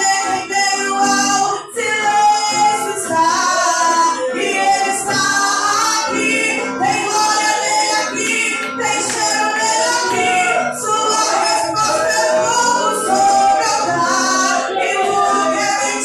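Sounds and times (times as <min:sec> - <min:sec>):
musical backing: 0:00.0 - 0:16.0
women singing worship song: 0:00.0 - 0:16.0.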